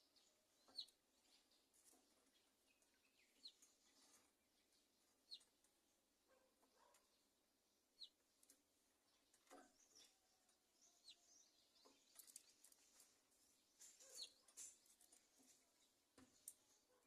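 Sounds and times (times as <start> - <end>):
faint bird chirps: 0.0 - 5.6, 7.9 - 8.3, 9.0 - 17.0.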